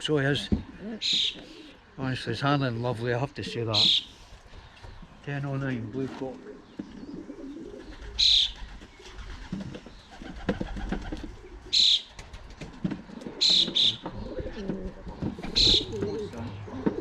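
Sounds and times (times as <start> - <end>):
pigeons cooing: 0.2 - 17.0.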